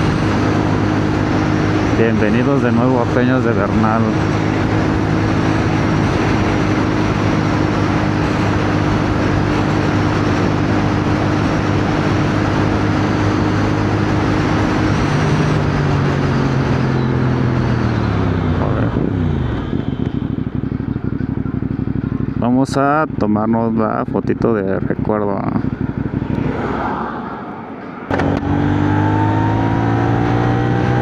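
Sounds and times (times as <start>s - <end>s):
motorcycle engine running: 0.0s - 31.0s
rush of riding wind: 0.0s - 31.0s.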